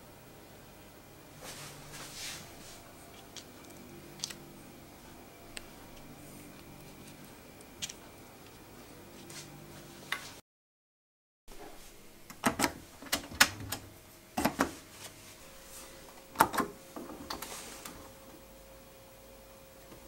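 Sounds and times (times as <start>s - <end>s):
faint steady hum: 0.0s - 10.4s, 11.5s - 20.0s.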